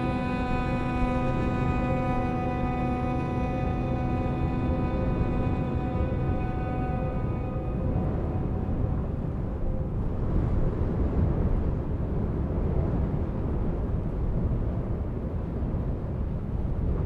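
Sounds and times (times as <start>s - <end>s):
blizzard wind rumbling: 0.0s - 17.0s.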